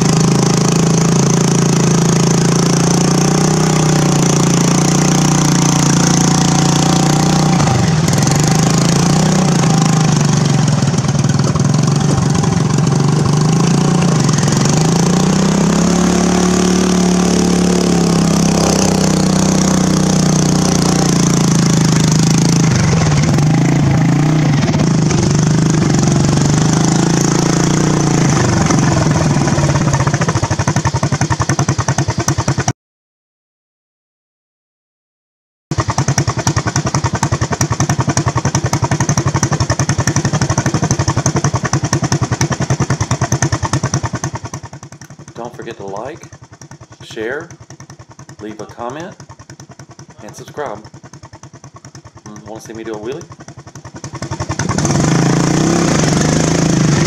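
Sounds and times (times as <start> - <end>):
riding lawn mower engine running: 0.0 - 32.7, 35.7 - 57.0.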